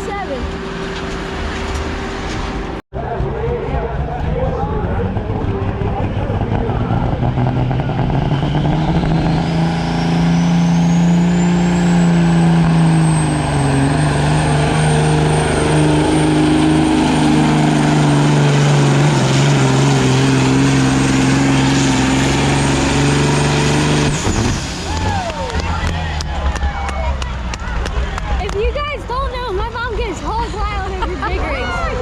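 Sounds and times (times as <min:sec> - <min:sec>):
diesel truck engine under load: 0:00.0 - 0:32.0.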